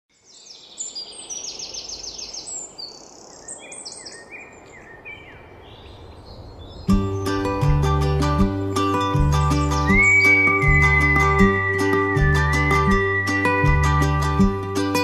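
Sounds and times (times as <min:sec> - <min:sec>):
birds chirping and singing: 0:00.2 - 0:07.8, 0:08.5 - 0:14.9.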